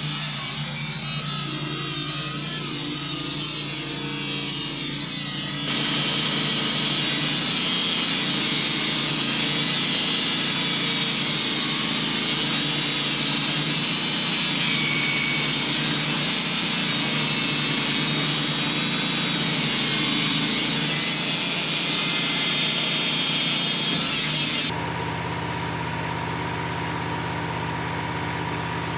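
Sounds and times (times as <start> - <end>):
saw blade hissing through log: 0.0 - 24.7
sawmill engine under load: 0.0 - 28.9.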